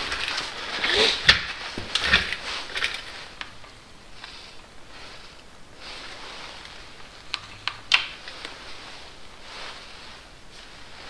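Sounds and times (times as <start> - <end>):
gloves and jacket rustling: 0.0 - 11.0.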